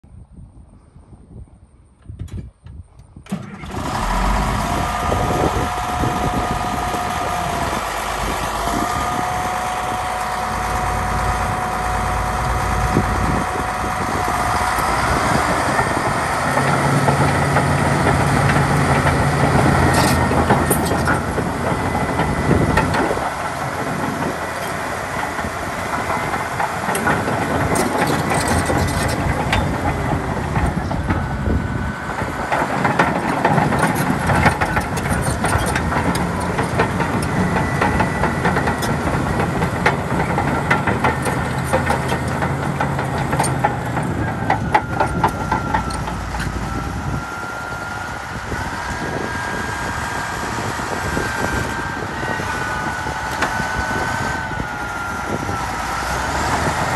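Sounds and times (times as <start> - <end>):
diesel bulldozer engine revving: 3.3 - 56.9.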